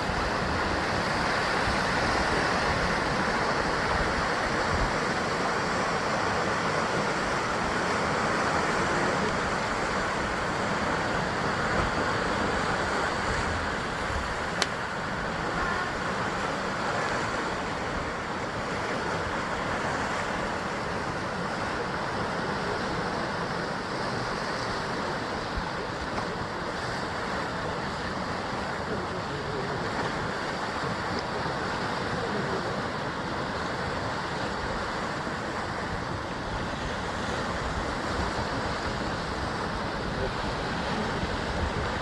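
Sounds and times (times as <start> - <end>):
sea waves breaking against cliffs: 0.0 - 42.0.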